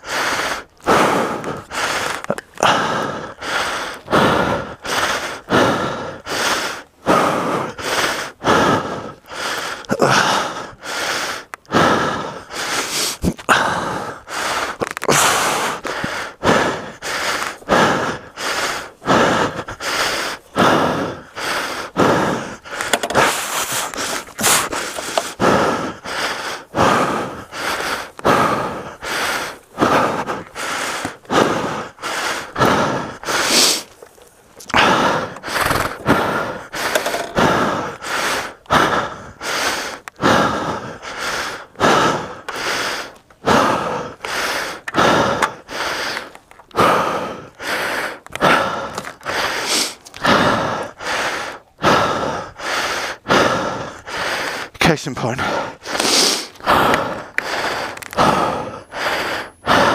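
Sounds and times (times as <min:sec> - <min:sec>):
man breathing heavily: 0:00.0 - 0:59.9.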